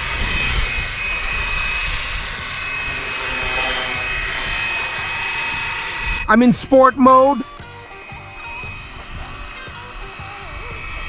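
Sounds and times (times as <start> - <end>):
rc helicopter whine: 0.0 - 11.0.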